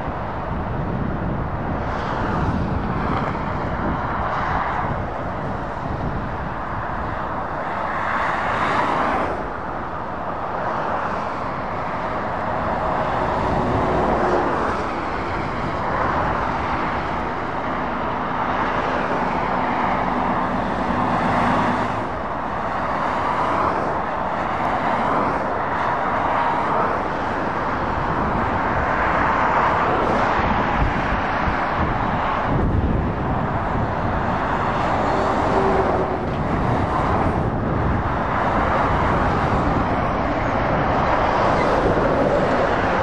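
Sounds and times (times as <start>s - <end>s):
lorry engines passing: 0.0s - 43.0s
motorway traffic: 0.0s - 43.0s.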